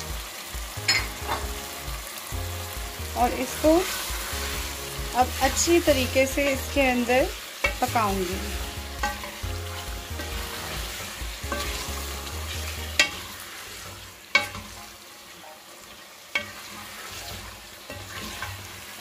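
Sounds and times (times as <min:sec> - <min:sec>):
chicken sizzling in a pot: 0:00.0 - 0:19.0.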